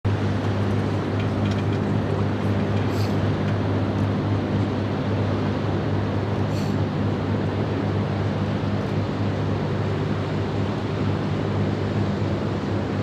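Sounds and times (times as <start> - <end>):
ship diesel engines droning: 0.0 - 13.0.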